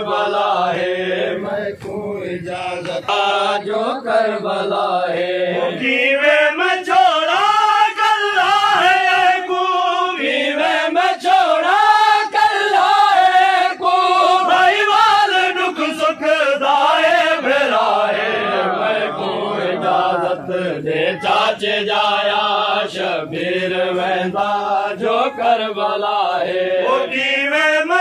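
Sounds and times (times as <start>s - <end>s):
lead reciter singing: 0.0s - 28.0s
men chanting in unison: 0.0s - 28.0s.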